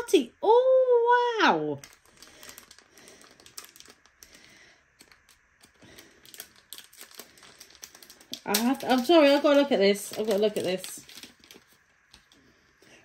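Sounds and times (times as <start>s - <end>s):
plastic pouch crinkling: 1.8s - 13.0s.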